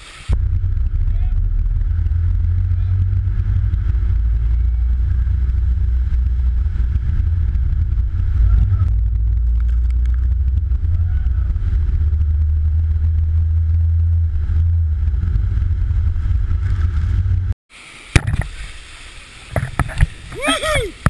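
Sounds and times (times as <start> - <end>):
water rushing: 0.0 - 17.0, 17.7 - 21.0
vehicle engine rumbling: 0.0 - 17.6, 19.5 - 21.0.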